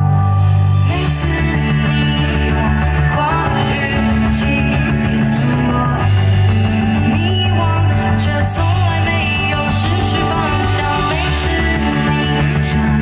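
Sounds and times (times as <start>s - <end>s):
live rock band playing: 0.0s - 13.0s
person singing: 0.0s - 13.0s.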